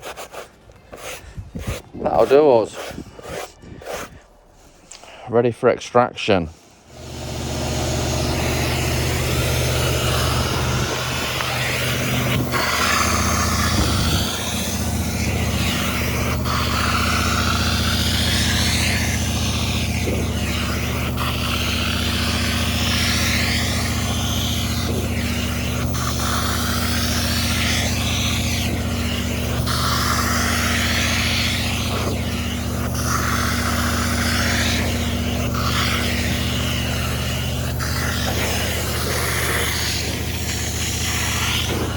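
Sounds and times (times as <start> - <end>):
wand sucking water hissing: 0.0 - 5.0, 6.6 - 41.9
extraction machine motor hum: 6.8 - 41.9.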